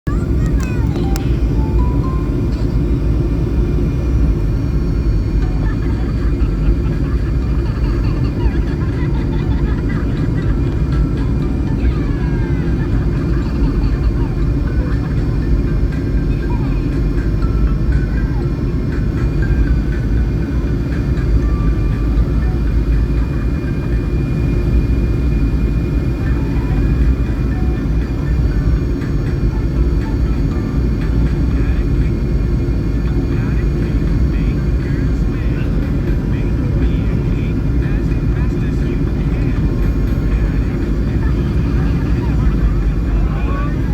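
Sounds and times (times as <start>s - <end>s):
airliner rumble: 0.0s - 43.9s.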